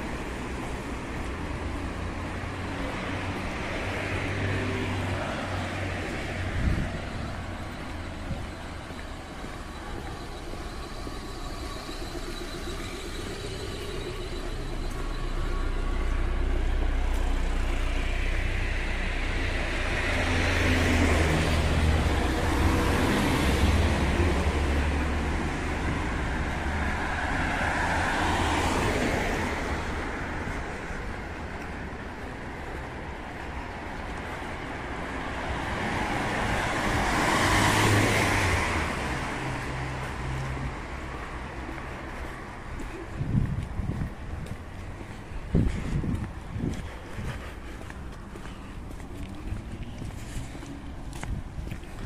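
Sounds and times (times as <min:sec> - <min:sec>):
cars passing on wet road: 0:00.0 - 0:52.0
low rumble of engines: 0:00.0 - 0:52.0.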